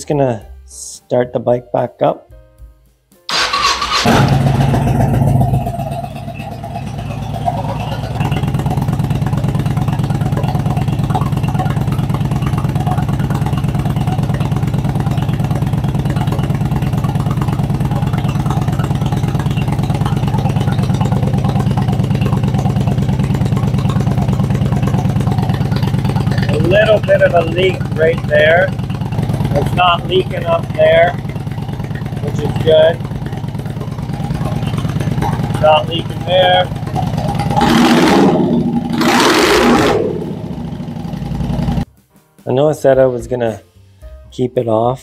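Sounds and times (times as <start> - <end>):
motorcycle engine starting and idling: 3.3 - 41.9.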